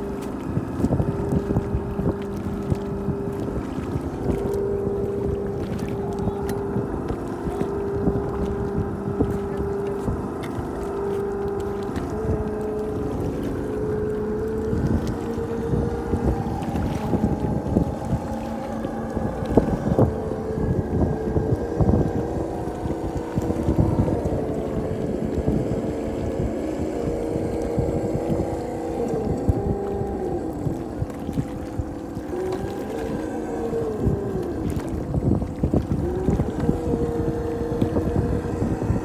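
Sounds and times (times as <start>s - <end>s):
electric motor and gear whine: 0.0s - 39.0s
wind buffeting microphone: 0.0s - 39.0s.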